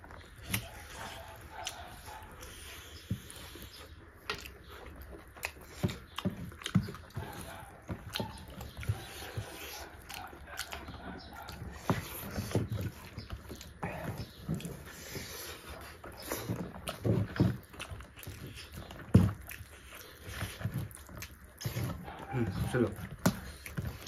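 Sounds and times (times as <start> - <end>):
fingers squishing rice: 0.0 - 24.0
wet chewing and lip smacking: 0.0 - 24.0.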